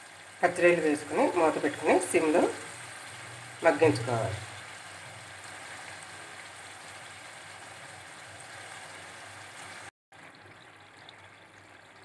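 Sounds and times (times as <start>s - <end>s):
prawns sizzling in oil: 0.0s - 12.0s.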